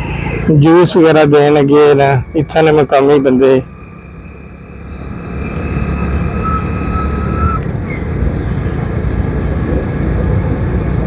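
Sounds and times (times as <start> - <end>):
vehicle rumbling on a road: 0.0 - 11.0.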